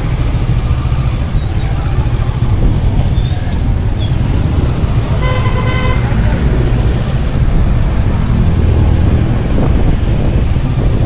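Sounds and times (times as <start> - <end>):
motorcycle engine low rumble: 0.0 - 11.0
road and traffic noise: 0.0 - 11.0.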